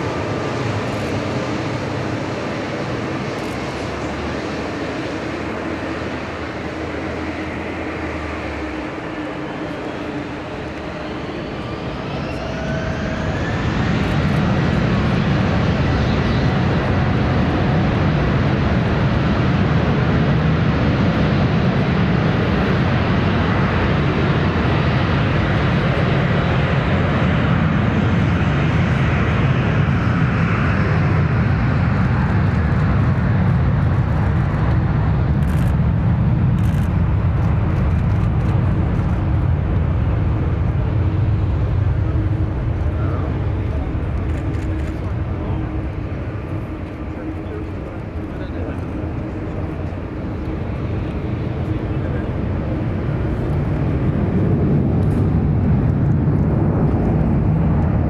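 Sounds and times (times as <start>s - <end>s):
jet roar flying past: 0.0s - 58.0s.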